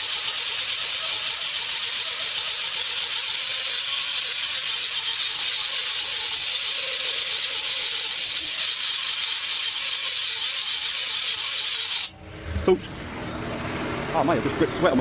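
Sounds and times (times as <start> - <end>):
grinder on rubber: 0.0 - 12.1.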